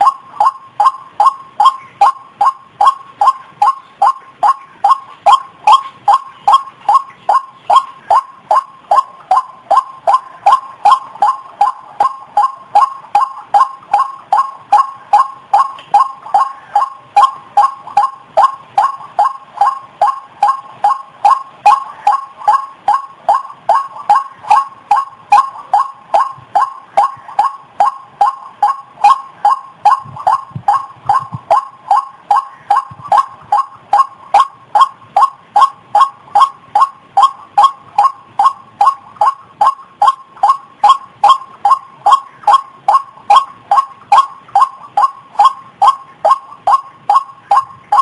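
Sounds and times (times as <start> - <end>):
waterhen calls: 0.0 - 48.0.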